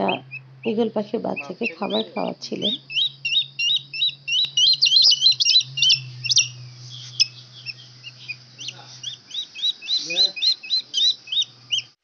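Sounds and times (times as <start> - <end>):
eagle chicks begging chirps: 0.0 - 12.0
faint low hum: 0.0 - 12.0.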